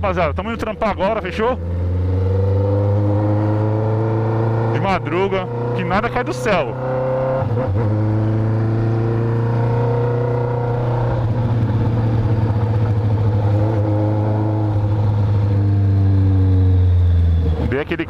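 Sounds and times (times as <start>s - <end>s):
motorcycle engine running: 0.0s - 17.6s.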